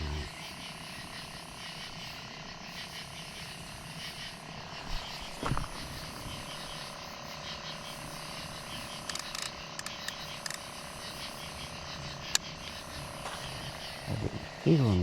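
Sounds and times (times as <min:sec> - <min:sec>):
constant hum: 0:00.0 - 0:15.0
frogs and insects chirping: 0:00.0 - 0:15.0.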